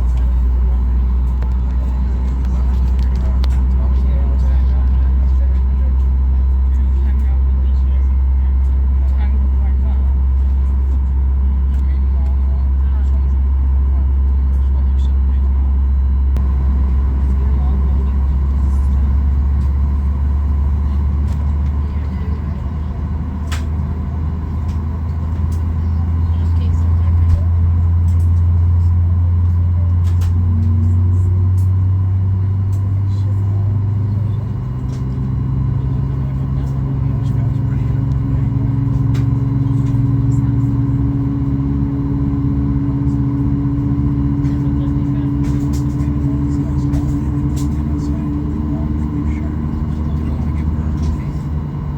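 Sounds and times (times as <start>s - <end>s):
airplane cabin rumble: 0.0s - 51.9s.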